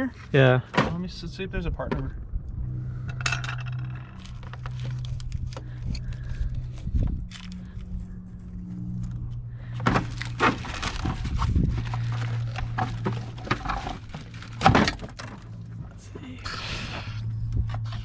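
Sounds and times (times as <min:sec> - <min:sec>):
steady low hum: 0:01.0 - 0:18.0.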